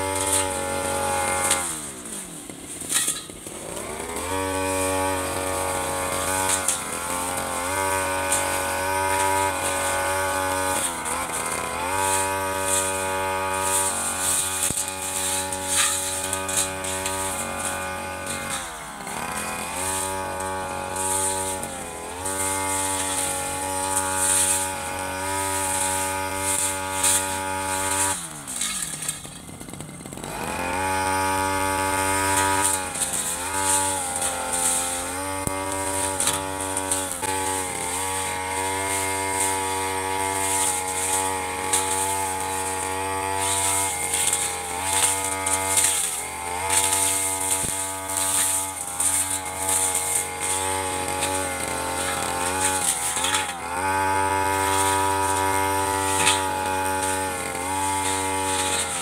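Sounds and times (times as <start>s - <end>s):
blade cutting grass: 0.0s - 59.0s
brush cutter running at high revs: 0.0s - 59.0s.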